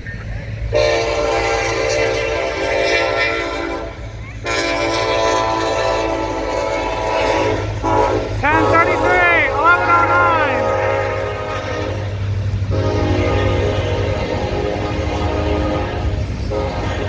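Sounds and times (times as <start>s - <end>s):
locomotive air horn blasts: 0.7s - 17.0s.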